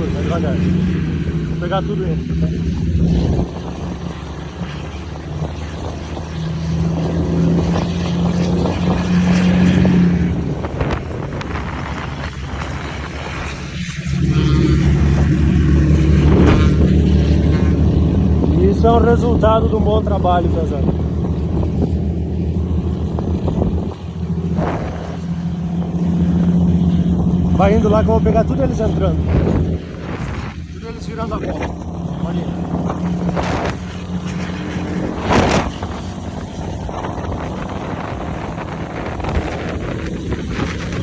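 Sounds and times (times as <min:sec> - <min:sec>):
truck engine rumbling: 0:00.0 - 0:41.0.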